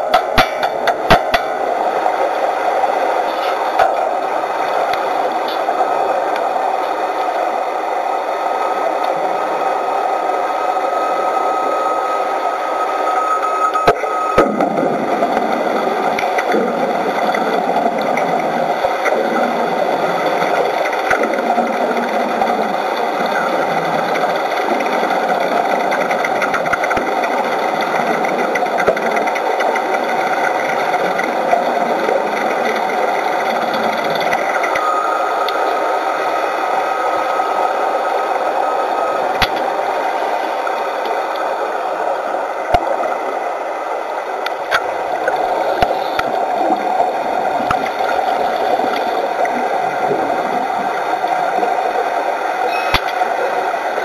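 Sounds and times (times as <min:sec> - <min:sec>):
underwater welding buzzing: 0:00.0 - 0:54.0.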